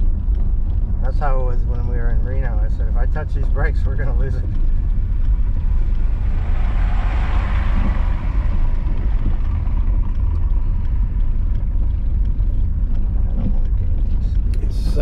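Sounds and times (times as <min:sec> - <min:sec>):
car driving on snow with chains: 0:00.0 - 0:15.0.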